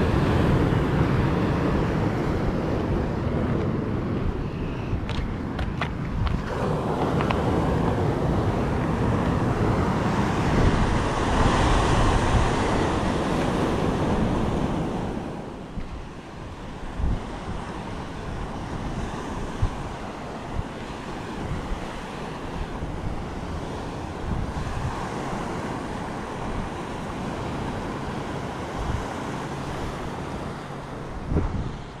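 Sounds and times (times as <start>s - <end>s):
surf washing over rocky shore: 0.0s - 32.0s
wind buffeting microphone: 0.0s - 32.0s.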